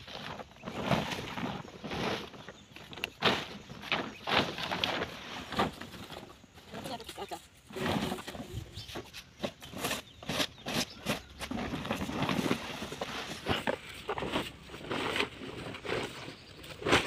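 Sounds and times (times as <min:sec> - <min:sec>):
plastic tarpaulin rustling: 0:00.0 - 0:17.0.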